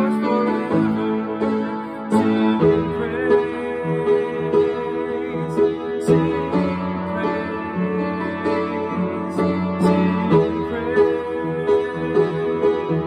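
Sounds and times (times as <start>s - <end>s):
upright piano playing chords: 0.0s - 13.0s.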